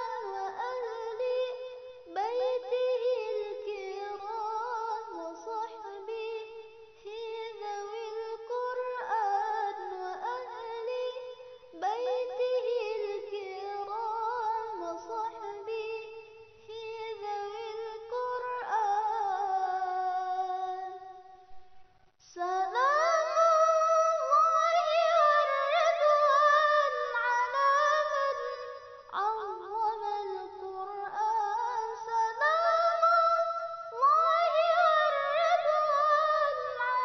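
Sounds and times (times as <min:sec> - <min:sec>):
high singing voice: 0:00.0 - 0:21.4, 0:22.2 - 0:37.0.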